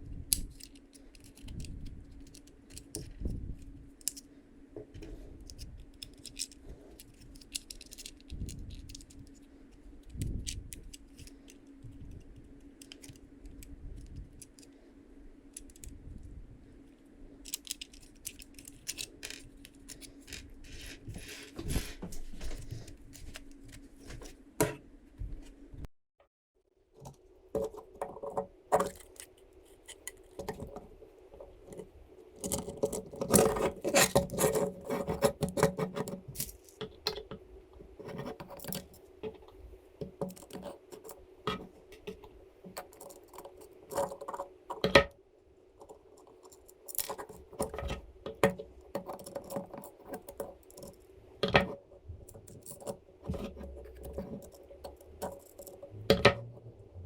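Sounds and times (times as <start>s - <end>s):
steady hum: 0.0s - 25.9s, 27.1s - 57.0s
clicks and scraping of small parts: 0.3s - 14.8s, 15.4s - 16.0s, 16.9s - 24.8s, 27.0s - 45.2s, 45.8s - 56.7s.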